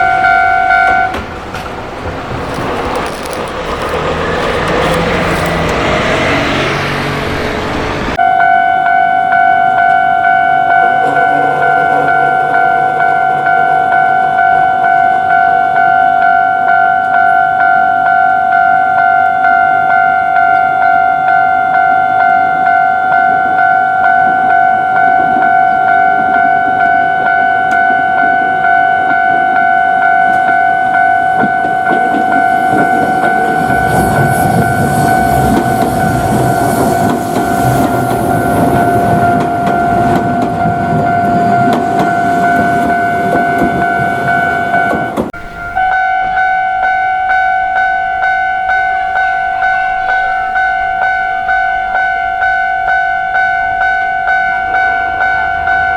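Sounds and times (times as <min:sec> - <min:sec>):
level crossing bell ringing: 0:00.0 - 0:01.2, 0:04.0 - 0:55.9
train rumble and wheel noise: 0:00.0 - 0:55.9.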